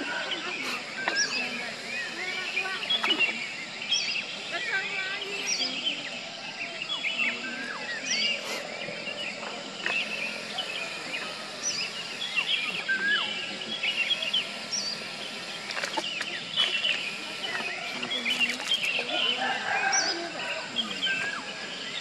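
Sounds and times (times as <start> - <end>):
birds singing and chirping: 0.0 - 22.0
outdoor hiss: 0.0 - 22.0.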